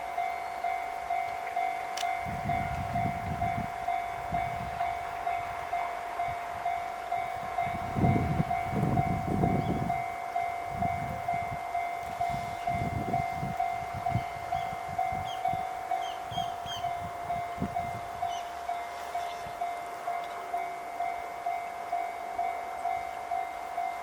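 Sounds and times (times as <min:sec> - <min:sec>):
level crossing warning bell: 0:00.0 - 0:24.0
train rumbling past: 0:00.0 - 0:24.0.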